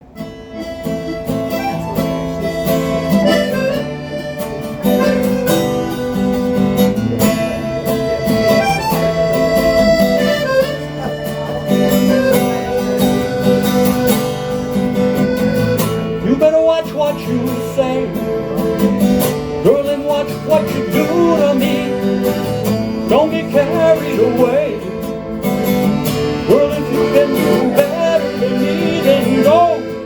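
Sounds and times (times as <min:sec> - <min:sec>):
harmonica melody: 0:00.0 - 0:30.0
strummed acoustic guitar chords: 0:00.0 - 0:30.0.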